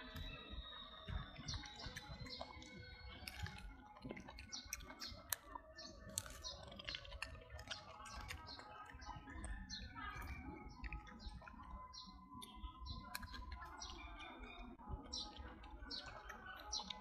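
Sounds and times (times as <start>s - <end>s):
faint clicking and smacking: 0.0s - 17.0s.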